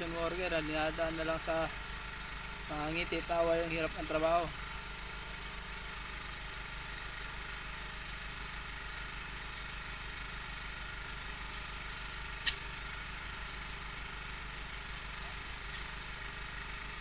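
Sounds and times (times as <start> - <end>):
engine idling inside cab: 0.0 - 17.0.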